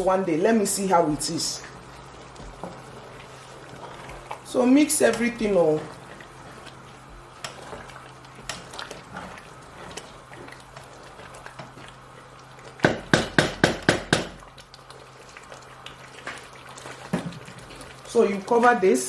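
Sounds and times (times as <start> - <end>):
spoon stirring in metal pot: 0.6 - 18.7.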